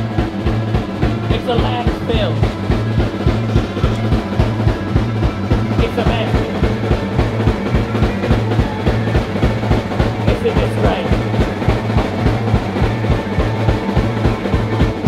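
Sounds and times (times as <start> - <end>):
driving drum beat: 0.0 - 15.0
rock band playing: 0.0 - 15.0
sustained low bass note: 0.0 - 15.0.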